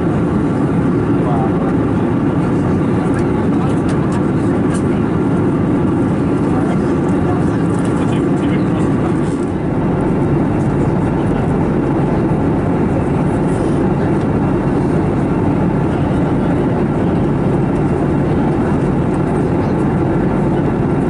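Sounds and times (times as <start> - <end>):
air rushing along fuselage: 0.0 - 21.0
jet engines humming: 0.0 - 21.0.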